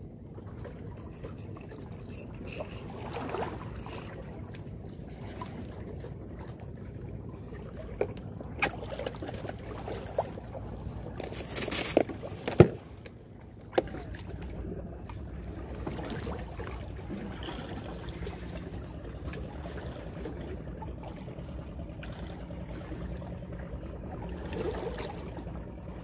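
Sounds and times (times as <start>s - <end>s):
wind: 0.0s - 26.0s
sea waves: 0.4s - 26.0s.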